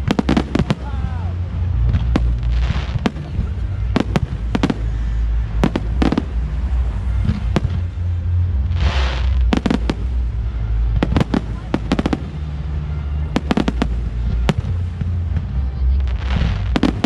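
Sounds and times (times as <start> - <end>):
fireworks bangs: 0.0 - 17.0
fireworks crackling: 0.0 - 17.0
steady low rumble: 0.0 - 17.0.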